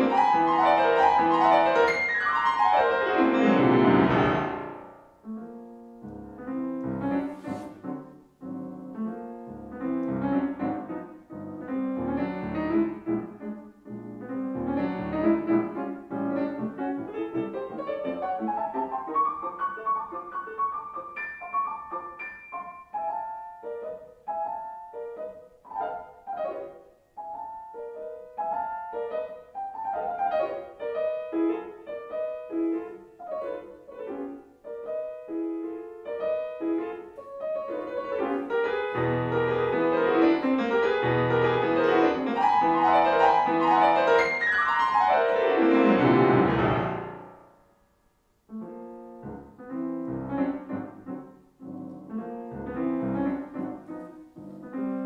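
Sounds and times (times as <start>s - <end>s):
solo piano piece: 0.0s - 55.0s.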